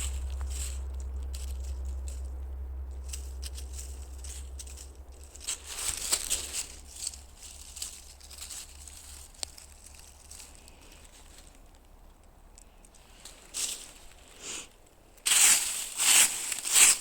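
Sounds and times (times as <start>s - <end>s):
low rumble: 0.0s - 14.2s
footsteps in dry forest litter: 0.0s - 17.0s.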